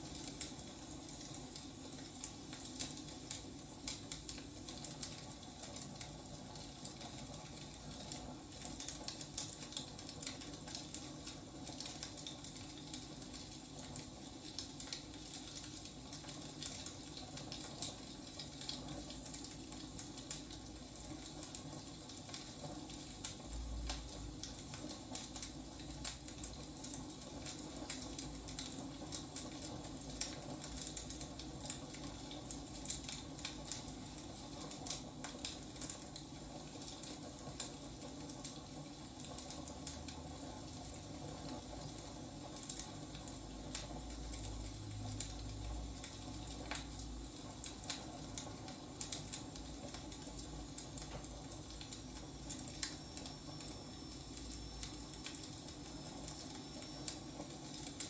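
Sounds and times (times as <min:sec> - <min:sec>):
fire popping and snapping: 0:00.0 - 0:58.0
wood fire crackling: 0:00.0 - 0:58.0.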